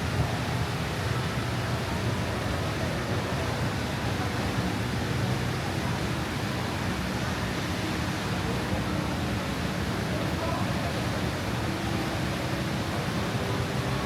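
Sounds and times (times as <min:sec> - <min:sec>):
faint voices: 0:00.0 - 0:14.0
steady rushing noise: 0:00.0 - 0:14.0.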